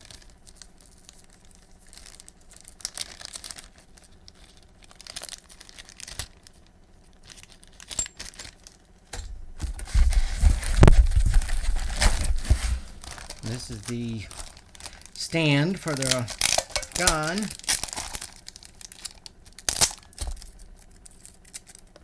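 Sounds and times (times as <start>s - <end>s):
plastic wrapping rustling: 0.0s - 9.0s, 9.7s - 21.9s.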